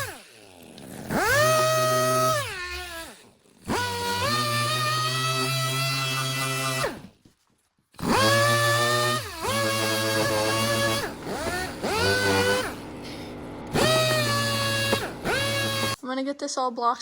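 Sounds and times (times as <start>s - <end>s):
power sander whining: 0.0s - 7.0s, 8.0s - 16.0s.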